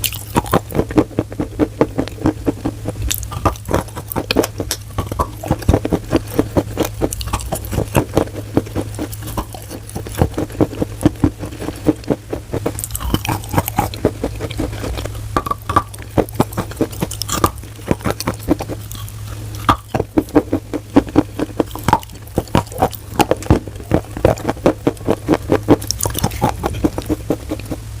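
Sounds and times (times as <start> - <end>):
chalk being chewed: 0.0 - 27.8
steady low hum: 0.0 - 28.0.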